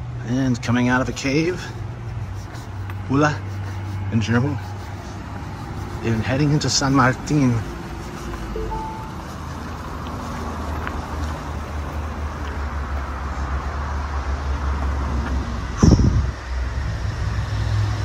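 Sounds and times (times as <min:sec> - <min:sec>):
van engine and tyres passing: 0:00.0 - 0:18.0.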